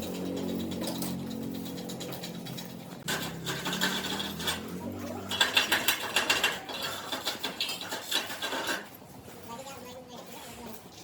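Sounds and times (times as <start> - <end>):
hand tool scraping and clicking: 0.0 - 9.2.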